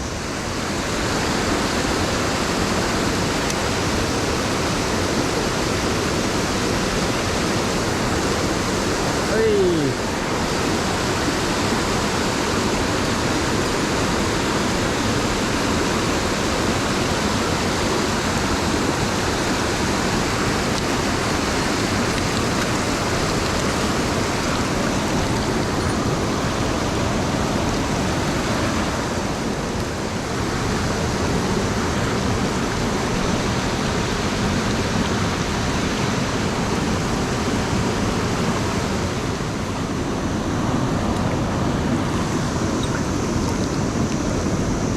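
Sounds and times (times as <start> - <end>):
stream running over rocks: 0.0 - 44.9.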